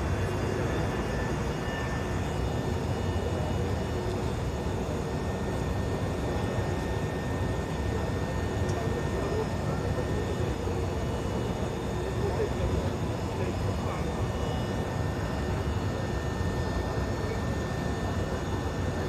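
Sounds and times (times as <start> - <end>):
engine running steadily: 0.0 - 19.0
faint steady whine: 0.0 - 19.0.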